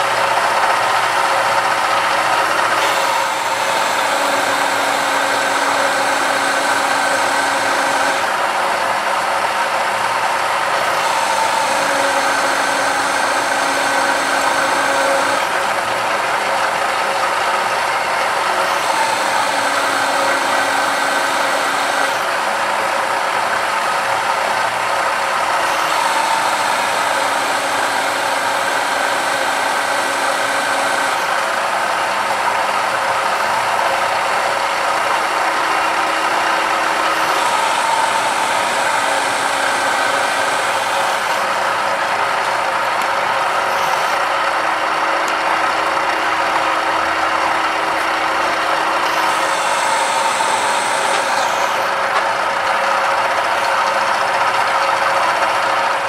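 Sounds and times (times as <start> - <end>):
milling machine cutting steel: 0.0 - 56.0.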